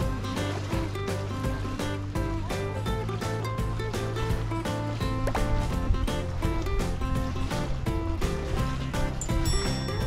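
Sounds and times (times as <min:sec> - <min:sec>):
background music with bass: 0:00.0 - 0:10.0
steady drum beat: 0:00.0 - 0:10.0.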